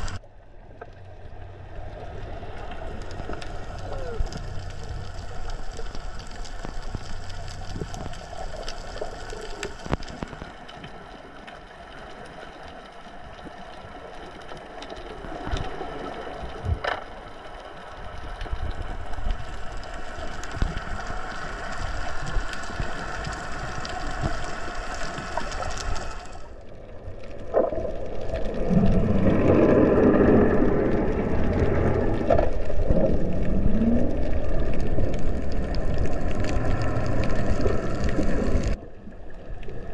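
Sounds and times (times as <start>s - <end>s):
muffled underwater water noise: 0.0s - 39.9s
rushing and bubbling water: 0.0s - 39.9s.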